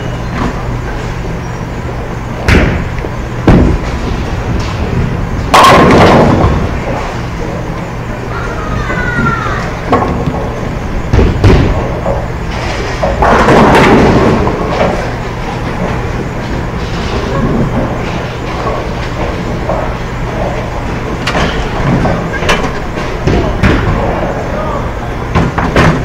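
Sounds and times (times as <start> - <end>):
alley rumble and hum: 0.0 - 26.0
bowling pins crashing: 2.4 - 7.3, 8.6 - 24.5, 25.3 - 26.0.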